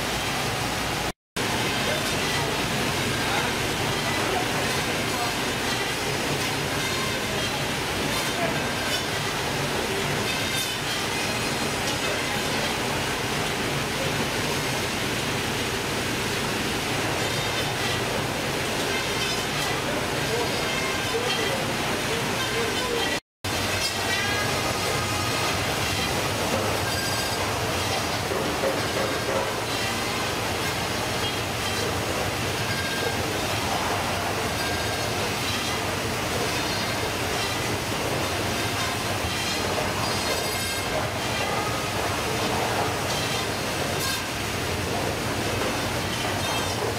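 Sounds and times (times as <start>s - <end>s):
rushing machine noise: 0.0s - 46.9s.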